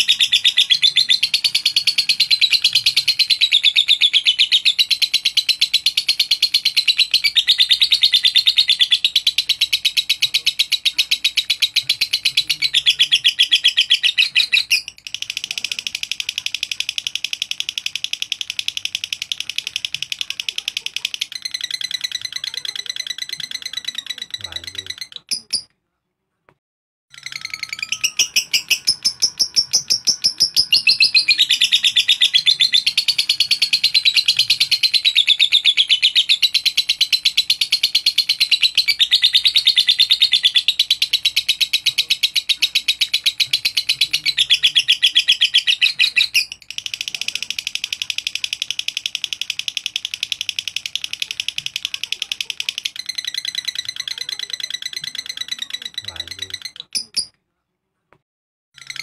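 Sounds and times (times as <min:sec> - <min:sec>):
lovebird shrill chirping chatter: 0:00.0 - 0:25.7, 0:27.1 - 0:57.4, 0:58.8 - 0:59.0.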